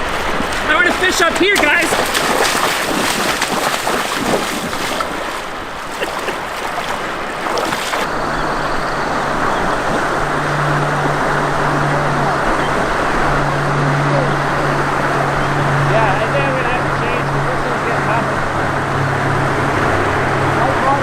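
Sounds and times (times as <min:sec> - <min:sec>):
rushing river water: 0:00.0 - 0:21.0.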